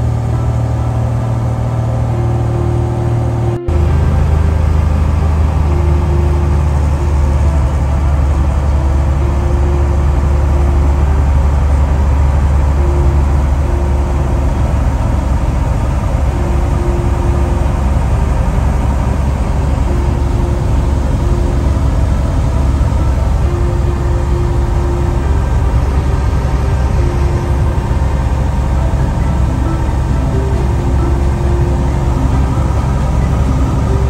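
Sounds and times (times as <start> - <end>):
aircraft engine and propeller drone: 0.0 - 34.0.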